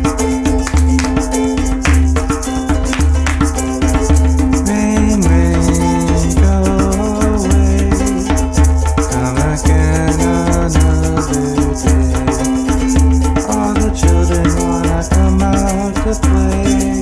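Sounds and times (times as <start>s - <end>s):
repeating bass notes: 0.0s - 17.0s
shaker rattling: 0.0s - 17.0s.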